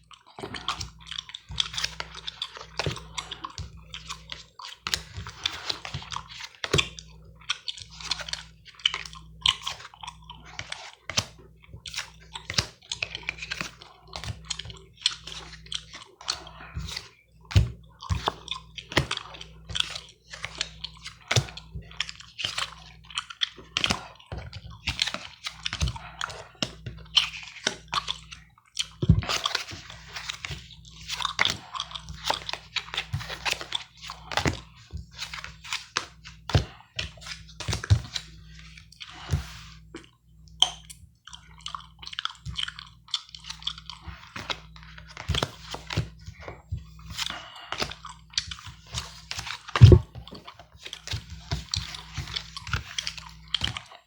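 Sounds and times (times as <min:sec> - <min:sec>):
gum chewing: 0:00.0 - 0:17.2, 0:17.8 - 0:34.8, 0:36.6 - 0:45.5, 0:46.2 - 0:54.0.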